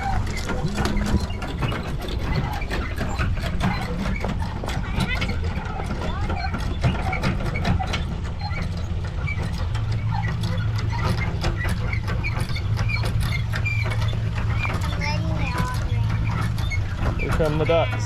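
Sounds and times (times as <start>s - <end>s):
low engine hum: 0.0s - 18.0s
rapid clicks and clatter: 0.0s - 18.0s.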